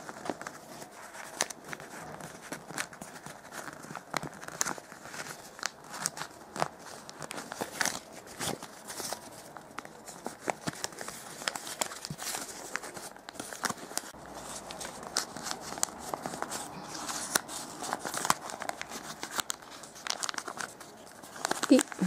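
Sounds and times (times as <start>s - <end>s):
paper rustling and crinkling: 0.0s - 22.0s
small paper clicks: 0.0s - 22.0s.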